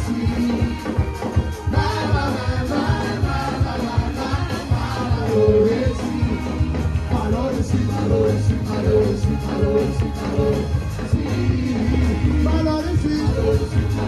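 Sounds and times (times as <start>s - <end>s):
bass line: 0.0s - 14.0s
drum beat: 0.0s - 14.0s
gospel music with singing: 0.0s - 14.0s.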